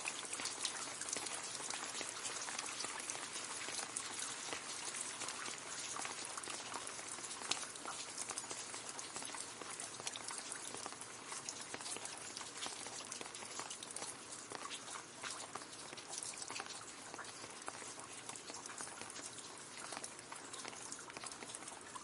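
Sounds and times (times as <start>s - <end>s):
rain pattering on leaves: 0.0s - 22.0s.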